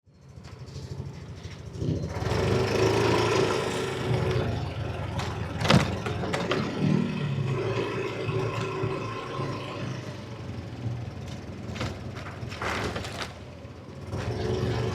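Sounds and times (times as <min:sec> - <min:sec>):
scooter engine pulling away: 0:00.2 - 0:14.9.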